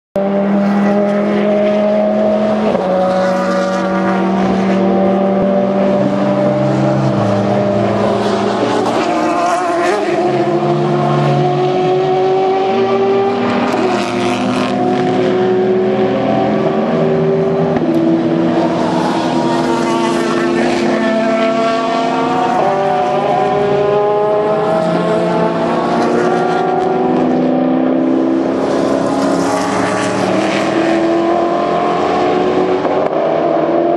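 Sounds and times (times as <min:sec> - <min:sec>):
race car engines: 0:00.2 - 0:33.9
race cars rushing past: 0:00.2 - 0:33.9.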